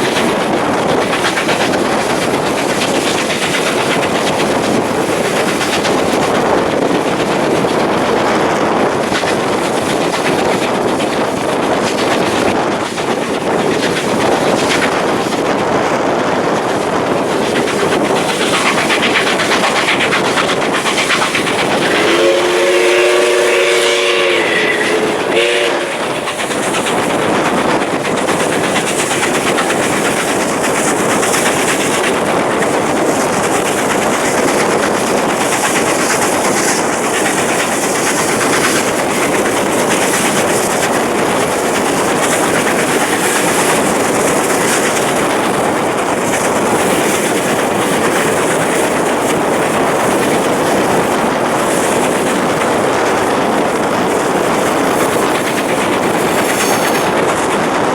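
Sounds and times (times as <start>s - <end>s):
clickety-clack over rail joints: 0.0s - 57.9s
train wheel and rail rush: 0.0s - 57.9s.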